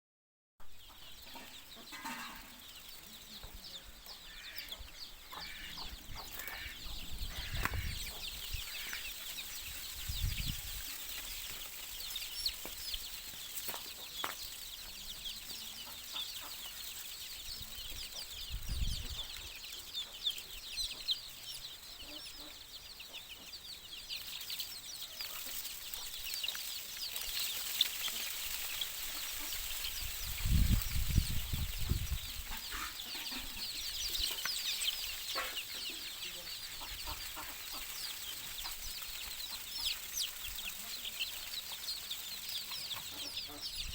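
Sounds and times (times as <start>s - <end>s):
chicks peeping: 0.6s - 43.9s.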